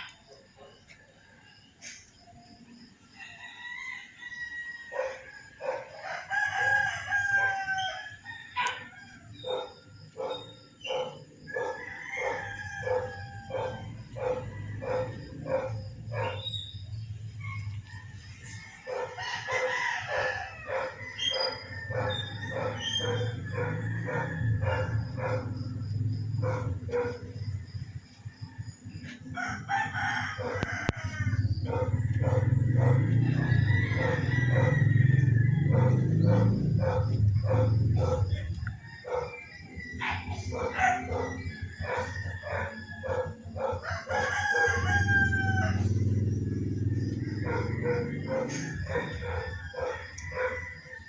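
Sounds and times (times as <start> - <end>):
roosters crowing: 0.7 - 51.0.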